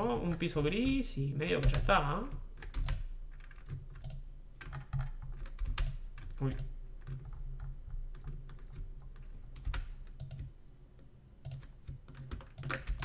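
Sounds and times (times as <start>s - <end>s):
keyboard and mouse clicking: 1.6s - 13.0s.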